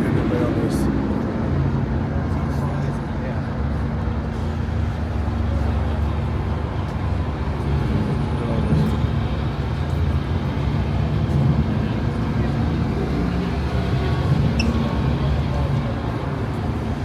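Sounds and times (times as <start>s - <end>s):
outdoor crowd noise: 0.0s - 17.0s.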